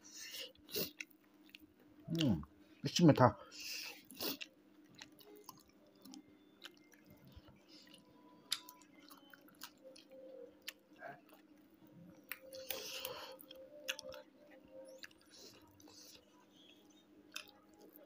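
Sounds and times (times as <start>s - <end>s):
person chewing: 0.1s - 2.5s, 3.6s - 18.0s.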